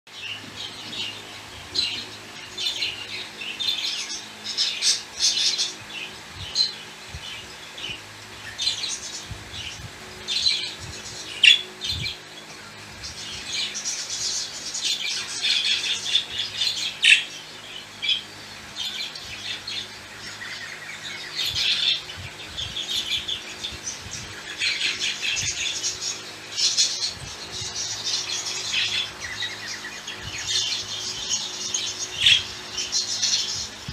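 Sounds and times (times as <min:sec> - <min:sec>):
budgerigars chattering: 0:00.2 - 0:12.3, 0:13.1 - 0:33.9.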